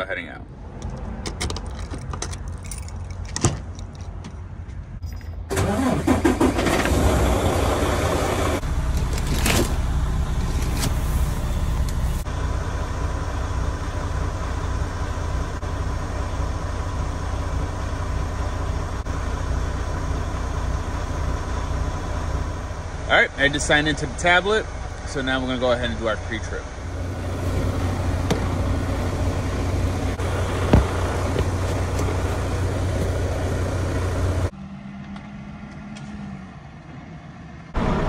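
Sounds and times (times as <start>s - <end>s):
diesel engine cranking and idling: 0.2s - 36.1s, 37.7s - 38.0s.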